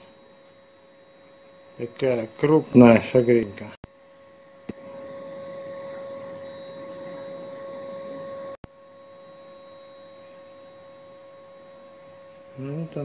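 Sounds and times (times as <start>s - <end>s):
electrical hum: 0.0s - 13.0s
faint whirring: 0.0s - 13.0s.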